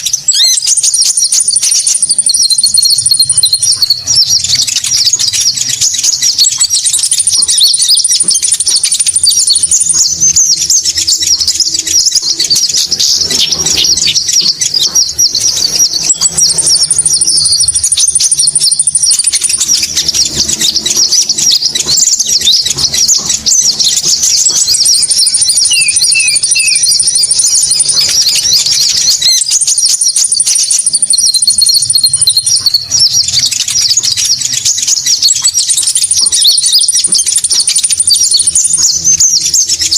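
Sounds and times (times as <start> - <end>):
high bird trill: 0.0 - 39.9
rapid high bird chirping: 0.0 - 39.9.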